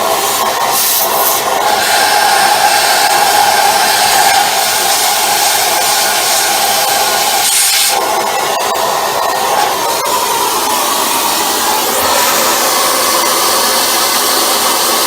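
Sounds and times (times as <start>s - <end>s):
vacuum cleaner air rush: 0.0s - 15.0s.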